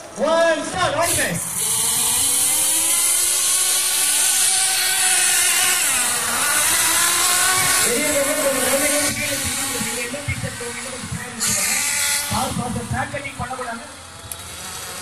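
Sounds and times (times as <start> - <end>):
small engines revving high: 0.0 - 15.0.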